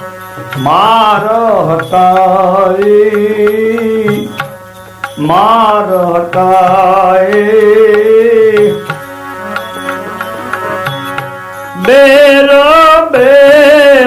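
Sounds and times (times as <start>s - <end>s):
steady drone: 0.0s - 14.0s
tabla strokes: 0.0s - 14.0s.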